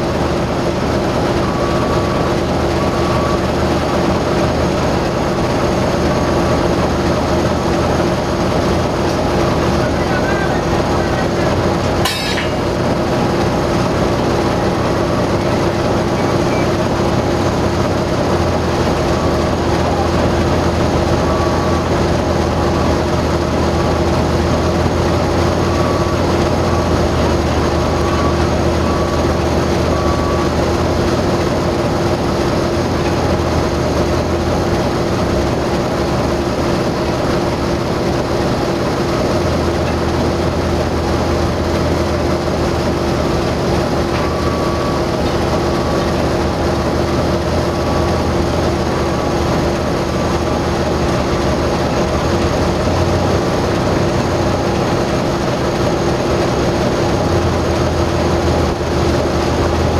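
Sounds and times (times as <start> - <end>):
diesel machinery droning: 0.0 - 59.9.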